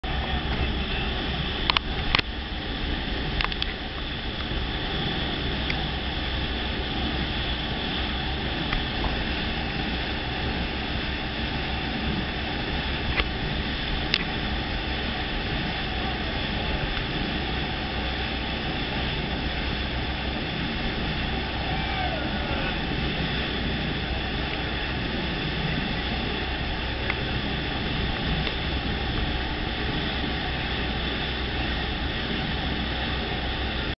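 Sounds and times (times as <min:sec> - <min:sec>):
boat engine droning: 0:00.0 - 0:34.0
water rushing in boat wake: 0:00.0 - 0:34.0.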